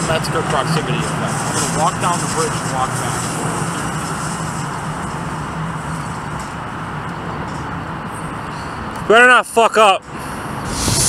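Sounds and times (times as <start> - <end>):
traffic noise with low hum: 0.0 - 11.0.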